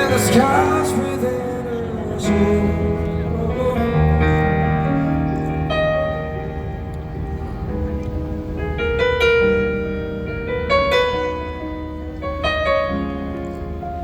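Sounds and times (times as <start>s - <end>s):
slow piano notes and chords: 0.0s - 14.0s.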